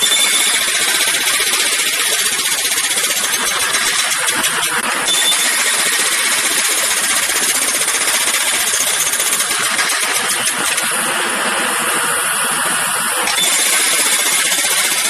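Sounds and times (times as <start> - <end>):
jackhammer hammering: 0.0 - 15.0.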